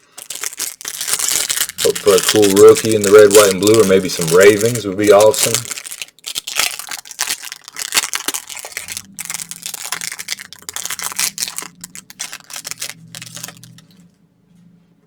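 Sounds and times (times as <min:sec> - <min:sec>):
plastic wrapper crinkling and tearing: 0:00.0 - 0:14.0.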